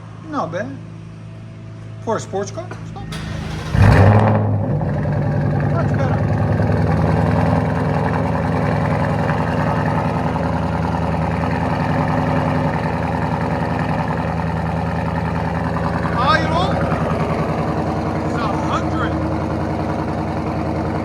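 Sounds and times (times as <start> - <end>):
car engine idling: 0.9 - 21.0.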